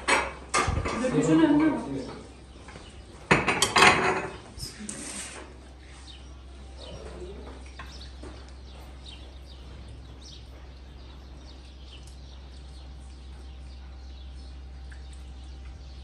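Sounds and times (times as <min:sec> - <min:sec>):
small birds chirping: 0:00.0 - 0:03.4, 0:04.0 - 0:16.0
steady low hum: 0:01.8 - 0:16.0.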